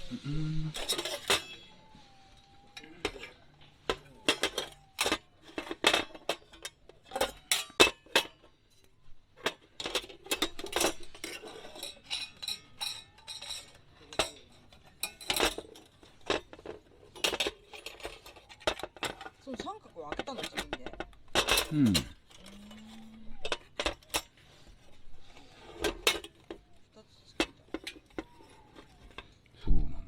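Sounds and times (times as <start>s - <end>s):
thin metal plates clinking: 0.7s - 29.5s.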